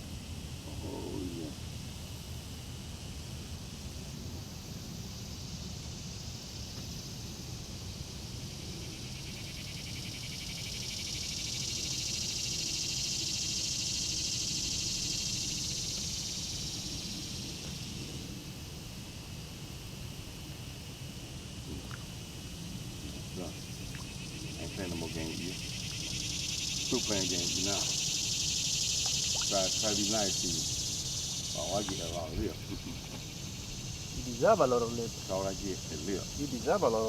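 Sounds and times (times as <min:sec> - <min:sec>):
buzzing insect chorus: 0:00.0 - 0:37.0.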